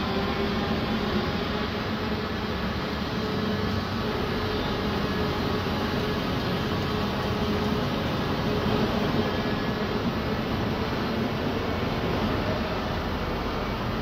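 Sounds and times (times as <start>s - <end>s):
ice resurfacer mechanical hum: 0.0s - 14.0s.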